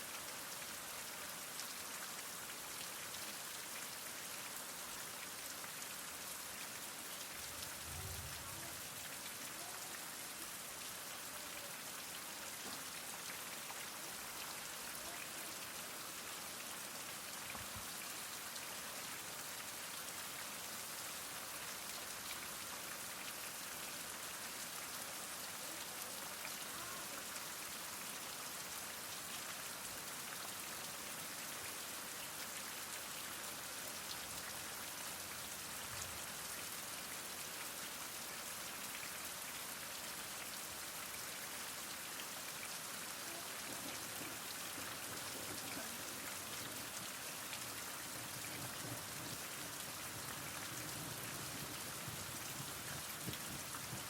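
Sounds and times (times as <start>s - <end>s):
heavy rain falling: 0.1s - 20.4s, 21.1s - 37.6s, 40.0s - 54.0s.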